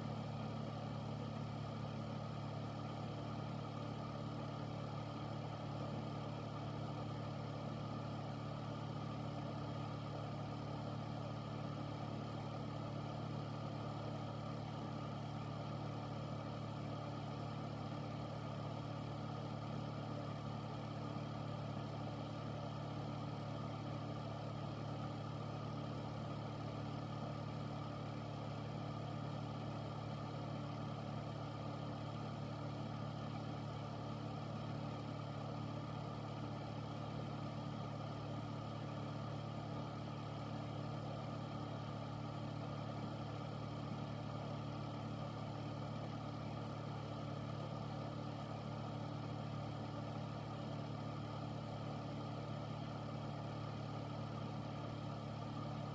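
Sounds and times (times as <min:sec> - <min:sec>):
air purifier fan running: 0:00.0 - 0:55.9.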